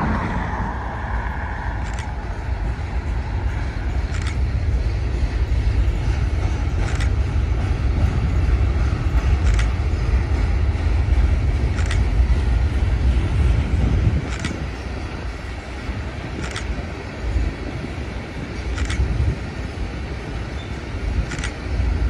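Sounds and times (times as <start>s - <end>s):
freight cars rumbling past: 0.0s - 22.0s.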